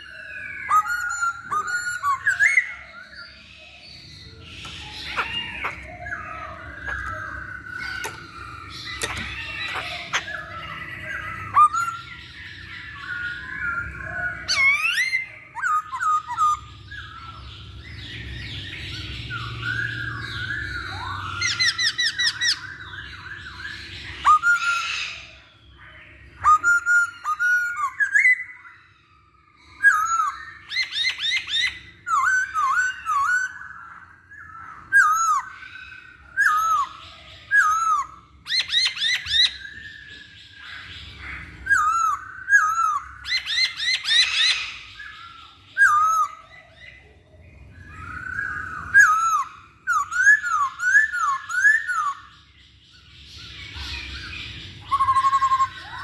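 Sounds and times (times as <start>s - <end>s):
bird singing whistles and chatter: 0.0s - 56.0s.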